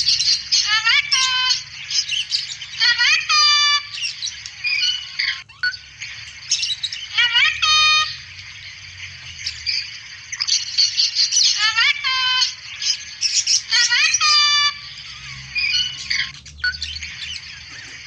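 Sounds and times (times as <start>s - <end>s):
small birds twittering: 0.0s - 18.0s.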